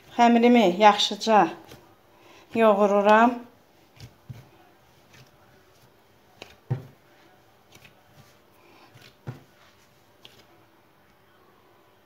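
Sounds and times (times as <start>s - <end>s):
dough thuds and slaps: 0.0s - 10.6s.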